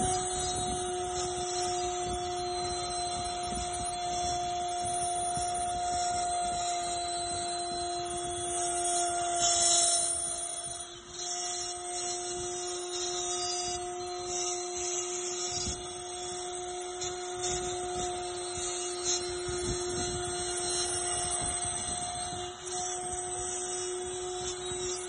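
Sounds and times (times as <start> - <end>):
cnc router spindle whine: 0.0 - 25.0.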